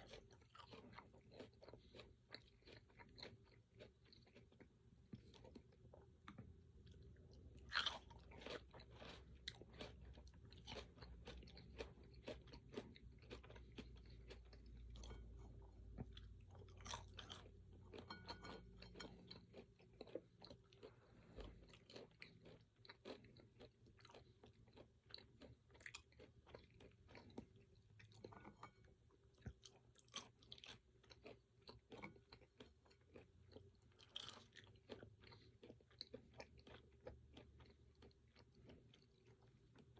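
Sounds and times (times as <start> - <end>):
chewing crunches: 0.0 - 39.9.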